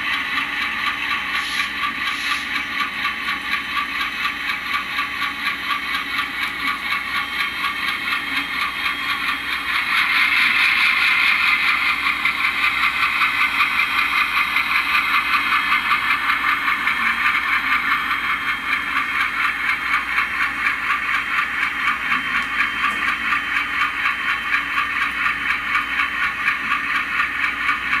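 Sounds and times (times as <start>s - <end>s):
model locomotive diesel engine chugging: 0.0s - 28.0s.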